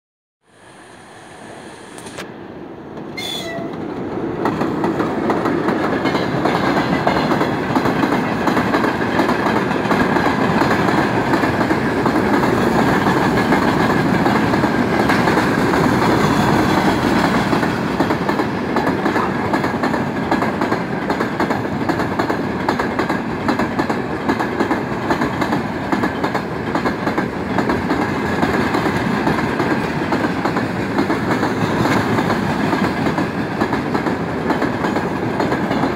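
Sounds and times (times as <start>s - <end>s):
electric locomotive passing: 0.5s - 35.9s.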